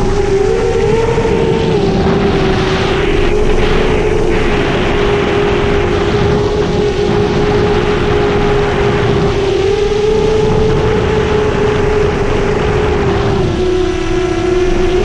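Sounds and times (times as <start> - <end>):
drone motors humming: 0.0 - 15.0.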